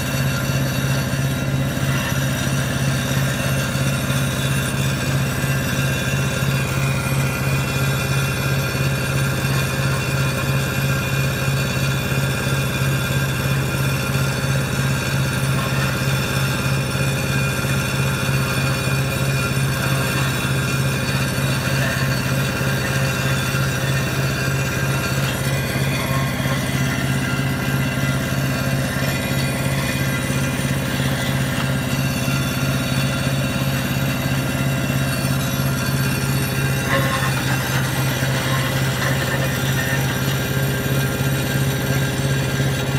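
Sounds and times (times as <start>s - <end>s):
wood chipper diesel engine running: 0.0s - 42.9s.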